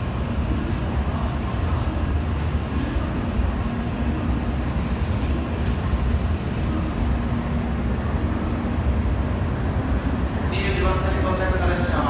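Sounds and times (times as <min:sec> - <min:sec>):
faint steady hum: 0:00.0 - 0:12.0
low rumble of platform ambience: 0:00.0 - 0:12.0
train approaching: 0:00.0 - 0:12.0.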